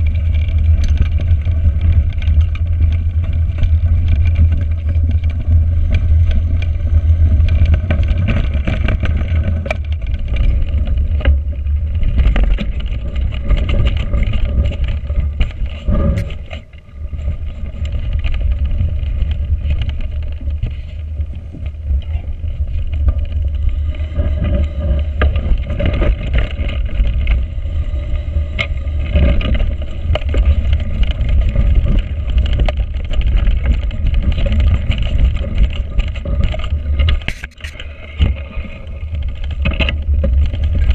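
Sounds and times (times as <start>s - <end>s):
bike tyres rolling on trail: 0.0s - 40.9s
wind buffeting microphone: 0.0s - 40.9s.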